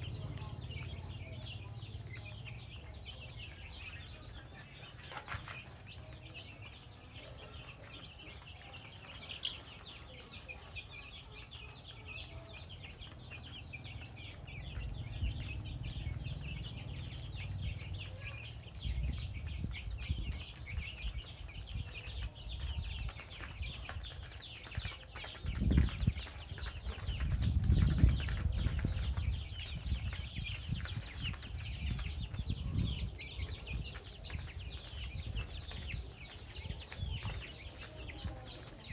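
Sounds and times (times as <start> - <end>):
chicks and ducklings peeping: 0.0 - 38.9.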